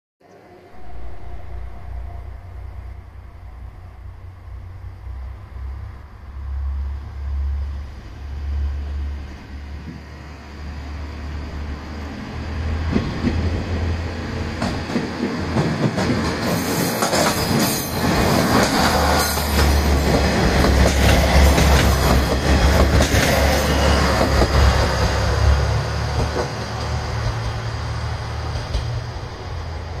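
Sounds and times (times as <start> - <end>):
diesel train engines: 0.2 - 30.0.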